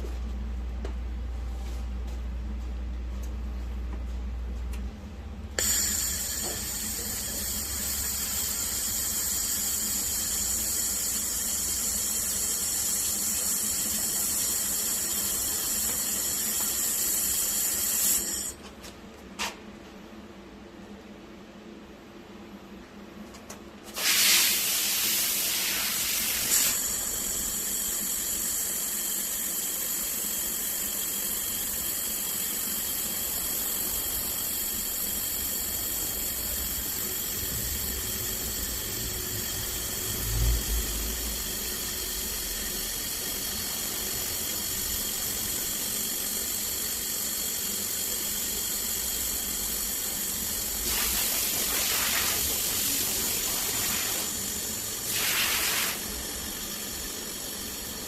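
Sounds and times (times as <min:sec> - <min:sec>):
laser welder hiss and whine: 0:05.6 - 0:18.6, 0:23.8 - 0:58.0.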